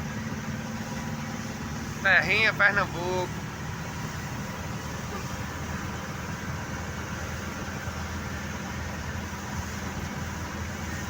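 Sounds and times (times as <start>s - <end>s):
car engine and tyres on wet road: 0.0s - 11.0s.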